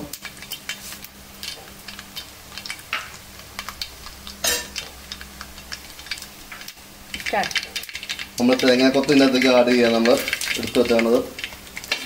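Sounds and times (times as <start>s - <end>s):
seeds sizzling and popping in oil: 0.0s - 12.0s.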